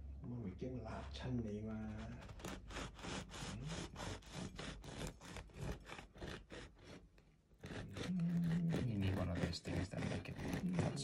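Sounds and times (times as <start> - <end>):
knife sawing through bread crust: 0.8 - 11.0.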